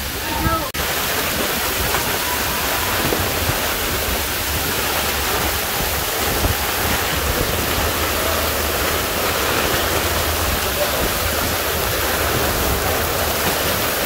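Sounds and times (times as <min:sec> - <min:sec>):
strong wind and driving rain: 0:00.0 - 0:14.0
wind rumbling on microphone: 0:00.0 - 0:14.0.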